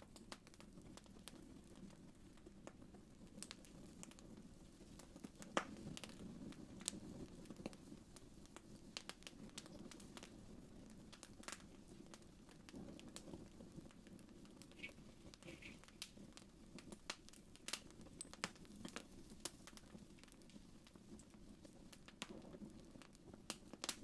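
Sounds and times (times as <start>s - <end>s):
wood fire crackling: 0.0s - 24.0s
hush of flames: 0.1s - 24.0s.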